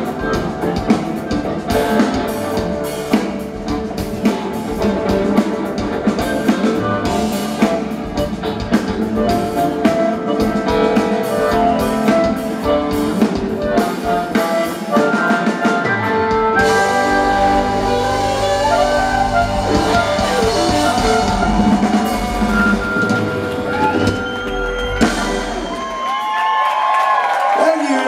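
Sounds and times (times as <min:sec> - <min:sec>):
drum beat: 0:00.0 - 0:26.5
live rock band playing: 0:00.0 - 0:27.0.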